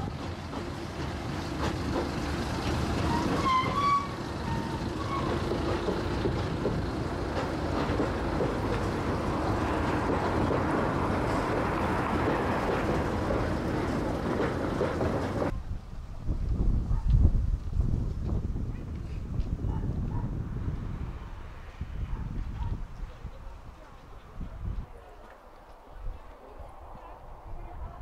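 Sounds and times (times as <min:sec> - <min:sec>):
rail cart rumbling along track: 0:00.0 - 0:28.0.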